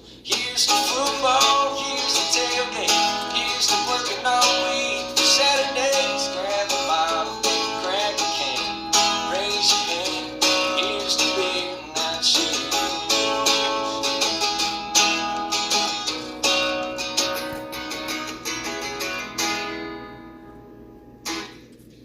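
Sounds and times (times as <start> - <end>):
acoustic guitar picking: 0.0 - 21.8.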